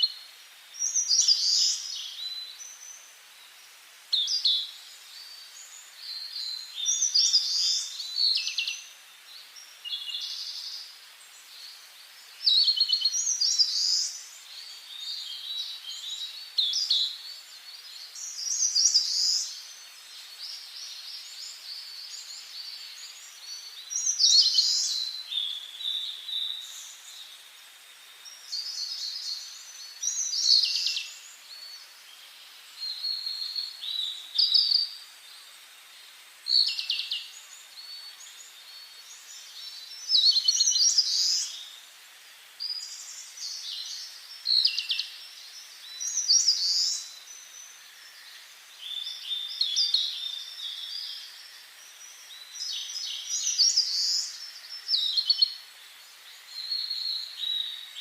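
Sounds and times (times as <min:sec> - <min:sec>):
faint background hiss: 0:00.0 - 0:58.0
songbirds singing: 0:00.0 - 0:58.0.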